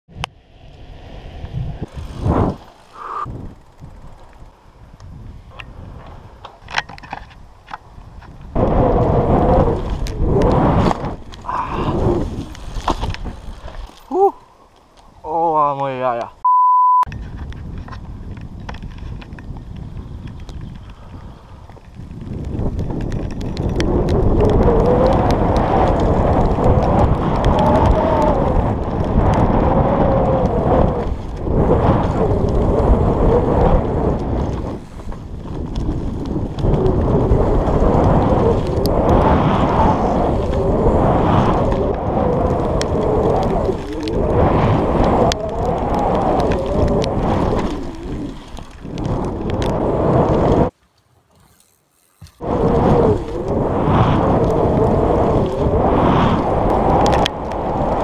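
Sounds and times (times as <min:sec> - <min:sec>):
wind on microphone: 0:00.1 - 0:14.4, 0:17.1 - 0:50.7, 0:51.6 - 0:58.0
bike tyres rumbling on dirt: 0:00.4 - 0:16.2, 0:17.2 - 0:58.0.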